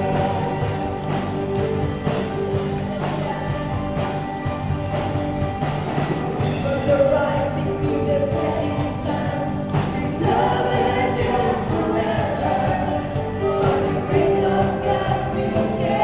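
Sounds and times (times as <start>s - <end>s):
singers on microphones: 0.0s - 4.6s, 6.3s - 16.0s
drums: 0.0s - 16.0s
guitar: 0.0s - 16.0s
keyboard: 0.0s - 16.0s.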